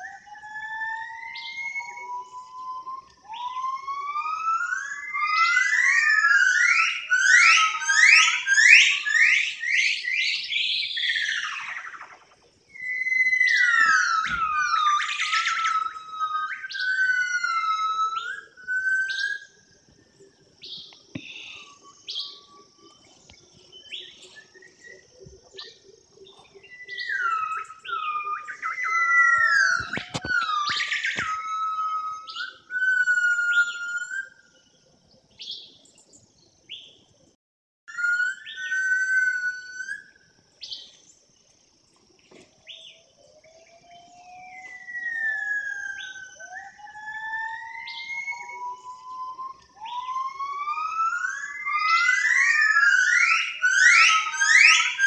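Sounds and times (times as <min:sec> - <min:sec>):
songbird whistling: 0:00.0 - 0:34.6, 0:37.9 - 0:41.0, 0:42.6 - 0:55.0.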